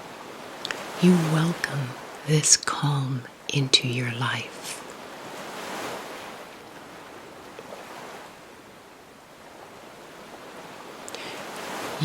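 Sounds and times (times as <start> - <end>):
ocean waves washing: 0.0 - 12.0.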